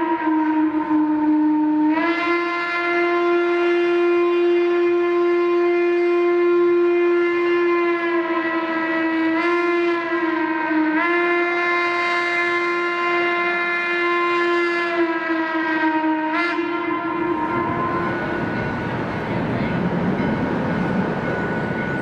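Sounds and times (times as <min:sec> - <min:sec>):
locomotive steam whistle: 0:00.0 - 0:22.0.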